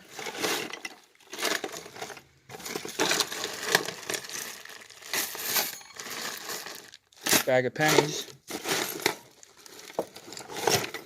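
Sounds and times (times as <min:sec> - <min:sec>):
small metal items clinking: 0:00.0 - 0:11.0.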